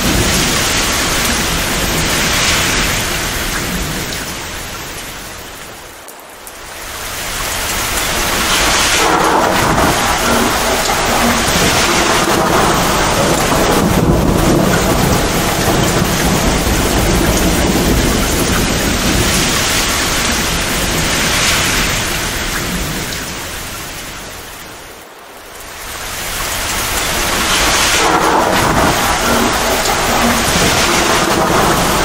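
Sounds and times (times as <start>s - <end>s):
low rumbling thunder: 0.0s - 4.8s, 7.5s - 23.4s, 26.2s - 32.0s
torrential rain: 0.0s - 32.0s.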